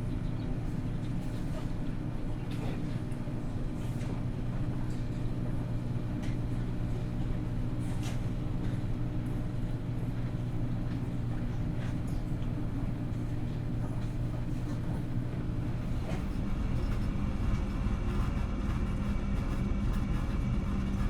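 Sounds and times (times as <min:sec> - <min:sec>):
washers and dryers humming: 0:00.0 - 0:21.0.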